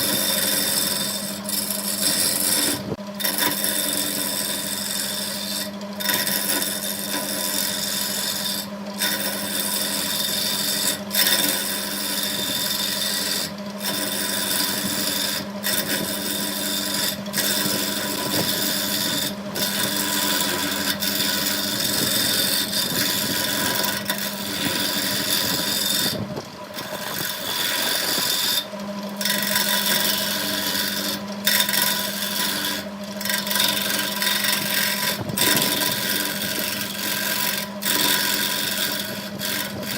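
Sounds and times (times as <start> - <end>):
tool scraping spinning wood: 0.0 - 39.9
wood lathe motor hum: 0.0 - 39.9.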